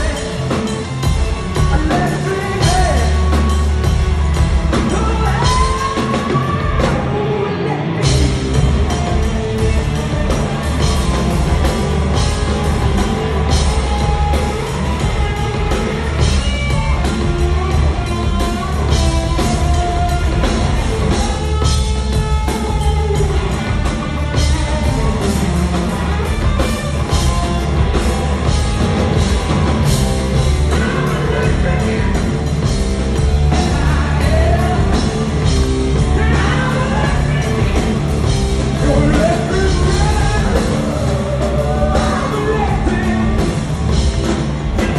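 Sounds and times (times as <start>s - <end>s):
person singing: 0.0s - 23.7s, 30.3s - 32.6s, 33.2s - 43.7s
bass guitar: 0.0s - 44.9s
drums: 0.0s - 44.9s
electric guitar: 0.0s - 44.9s.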